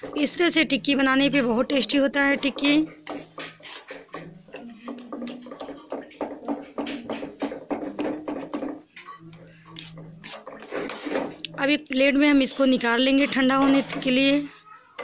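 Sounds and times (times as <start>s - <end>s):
spoon scraping a pan: 0.0s - 14.6s.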